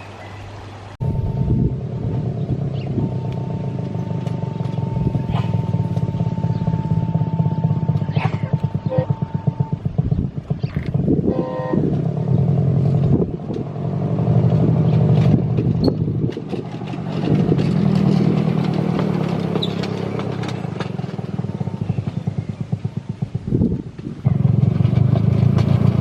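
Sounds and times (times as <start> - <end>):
small diesel engine running: 1.0 - 26.0.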